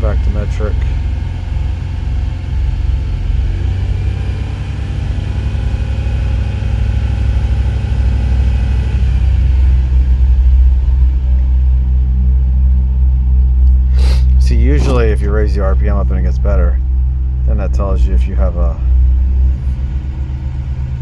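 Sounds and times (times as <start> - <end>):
misfiring car engine rumble: 0.0 - 21.0.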